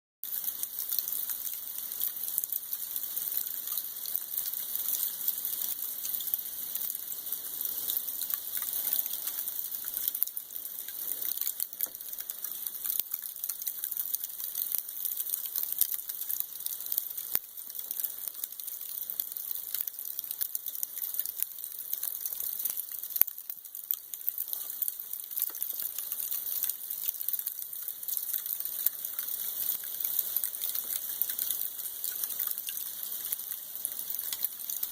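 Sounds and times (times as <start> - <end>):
freezing rain pattering: 0.2 - 34.9.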